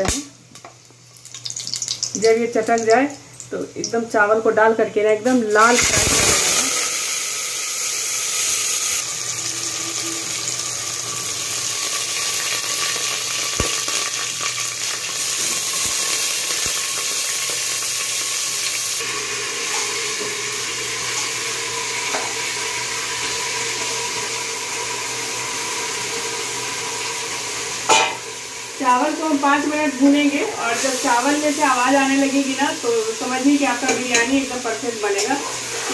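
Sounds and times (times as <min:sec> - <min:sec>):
rice sizzling in hot oil: 0:00.6 - 0:04.0, 0:05.3 - 0:35.9.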